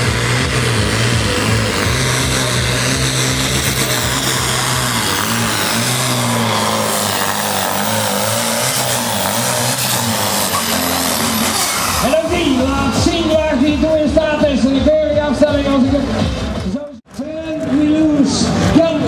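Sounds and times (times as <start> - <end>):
tractor diesel engine at full throttle: 0.0 - 19.0.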